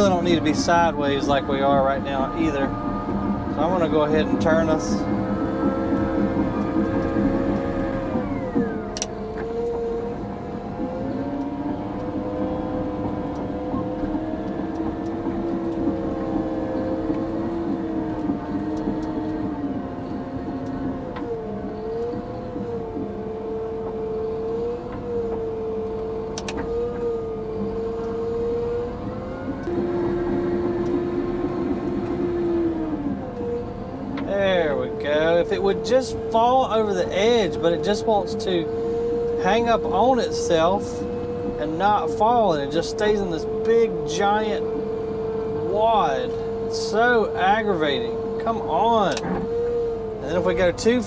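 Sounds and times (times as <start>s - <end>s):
bulldozer engine running: 0.0s - 51.0s
lower whine: 0.0s - 51.0s
wavering whine: 0.0s - 51.0s.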